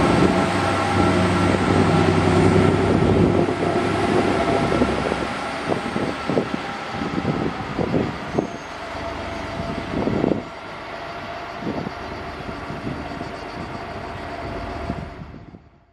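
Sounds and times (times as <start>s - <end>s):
diesel locomotive engine rumble: 0.0s - 15.9s.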